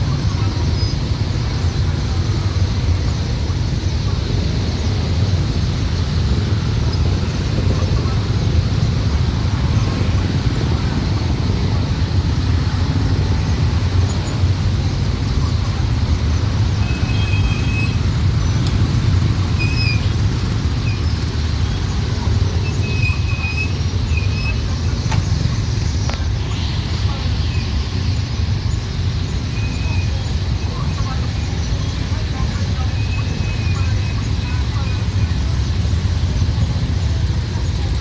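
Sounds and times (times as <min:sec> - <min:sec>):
dense street traffic rumble: 0:00.0 - 0:38.0.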